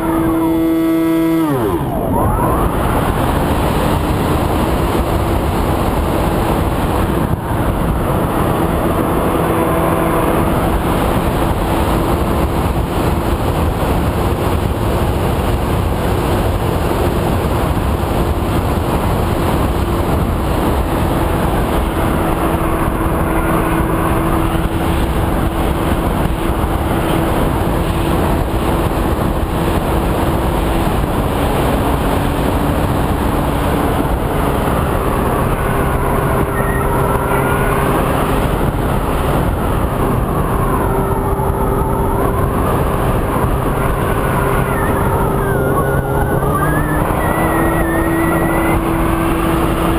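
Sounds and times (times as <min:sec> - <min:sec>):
electric motor and propeller drone: 0:00.0 - 0:49.9
heavy wind rush: 0:00.0 - 0:49.9.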